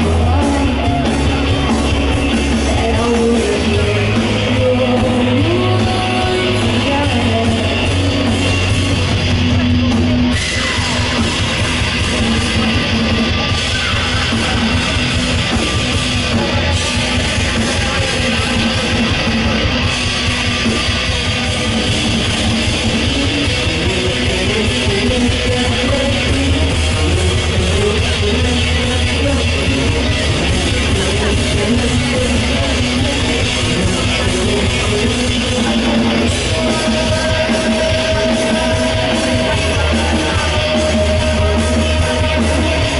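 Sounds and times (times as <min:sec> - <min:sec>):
drums and cymbals: 0:00.0 - 0:42.9
strummed electric guitar: 0:00.0 - 0:42.9.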